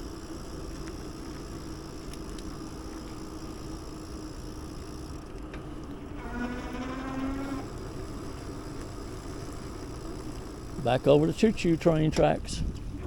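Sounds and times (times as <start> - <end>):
bicycle tyre rumble: 0.0 - 13.0
faint steady hum: 0.0 - 13.0.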